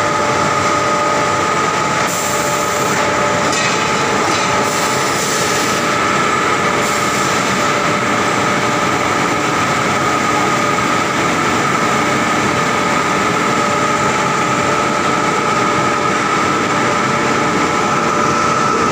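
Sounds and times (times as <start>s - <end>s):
steady machine whine: 0.0s - 18.9s.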